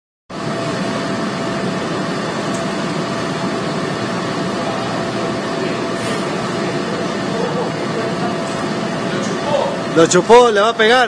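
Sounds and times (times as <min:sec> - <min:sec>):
faint steady whine: 0:00.3 - 0:11.0
machinery rushing hum: 0:00.3 - 0:11.0.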